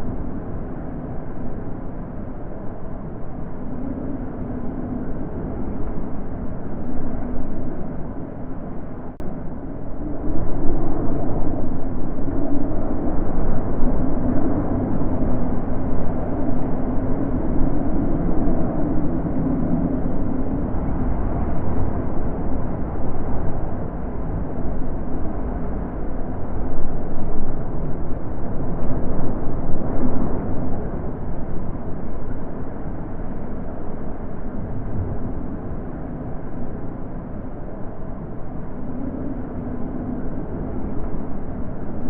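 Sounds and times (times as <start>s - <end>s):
wind blowing in gusts: 0.0s - 42.0s.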